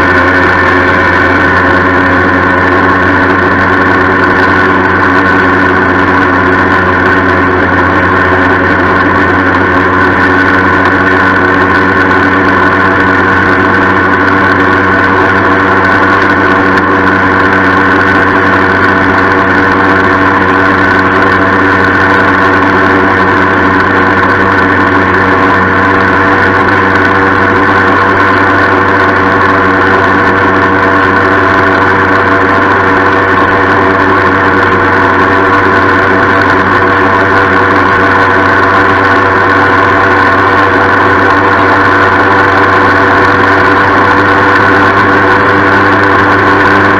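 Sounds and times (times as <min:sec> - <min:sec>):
moped engine running: 0:00.0 - 0:46.9.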